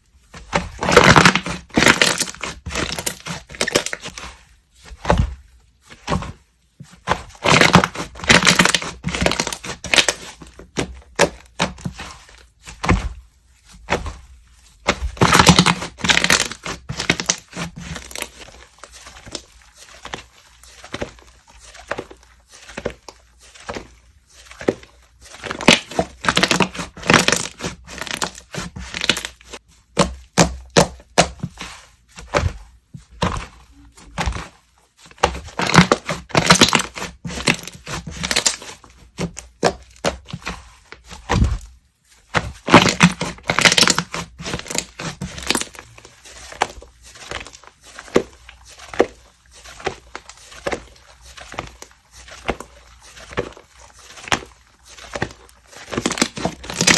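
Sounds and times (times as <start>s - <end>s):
slime squishing and crackling: 0.0s - 56.9s.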